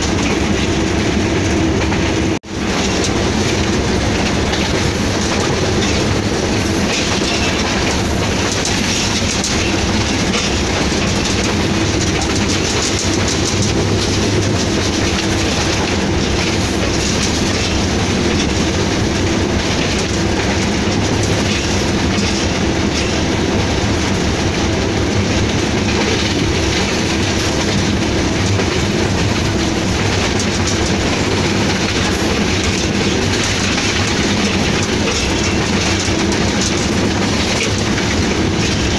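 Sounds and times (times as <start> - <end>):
wheels clattering on rails: 0.0 - 38.9.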